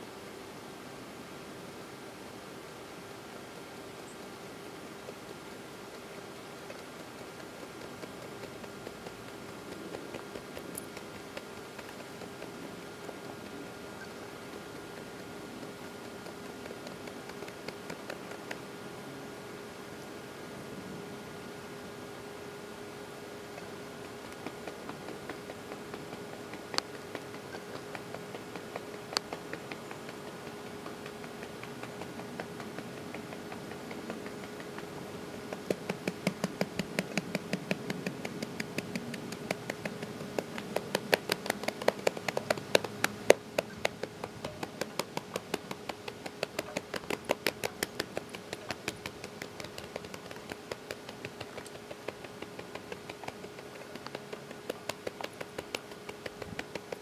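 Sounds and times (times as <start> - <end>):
faint steady hum: 0.0 - 57.0
fast sharp clicks: 4.9 - 18.8, 23.3 - 57.0.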